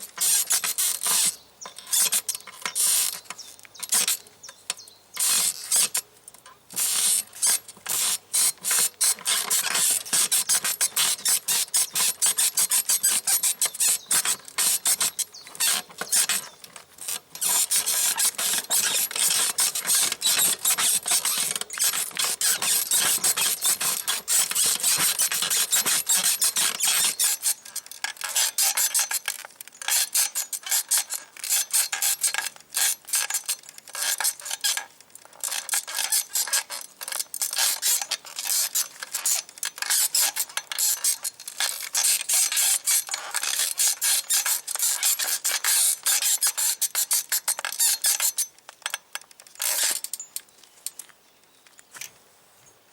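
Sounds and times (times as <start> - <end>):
bicycle saddle springs squeaking: 0.0 - 49.0.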